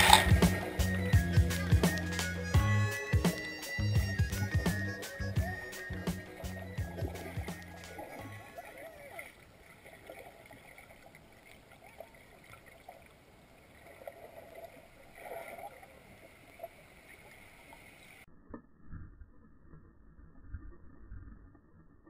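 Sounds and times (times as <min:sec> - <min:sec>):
muffled underwater hiss: 0:00.0 - 0:18.2.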